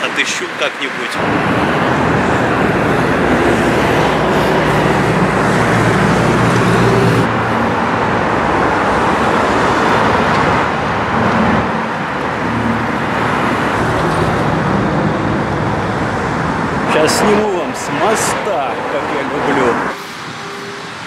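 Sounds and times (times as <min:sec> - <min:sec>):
cars passing close by: 0:00.0 - 0:21.0
engine hum: 0:01.1 - 0:21.0.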